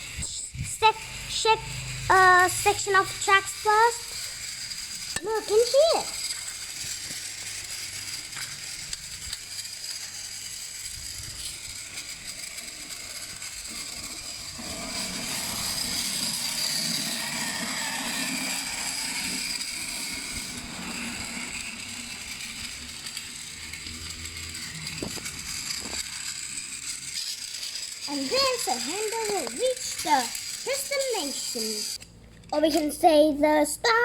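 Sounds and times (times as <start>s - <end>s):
toy train motor whirring: 0.0s - 34.0s
toy train wheels rattling: 0.0s - 34.0s.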